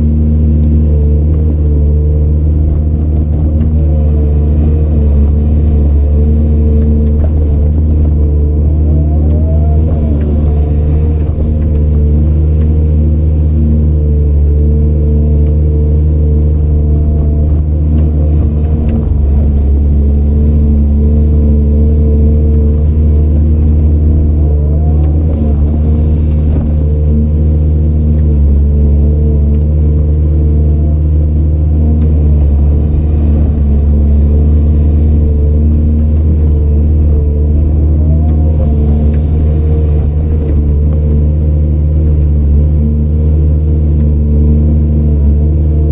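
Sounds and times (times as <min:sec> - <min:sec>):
diesel engine droning under load: 0:00.0 - 0:45.9.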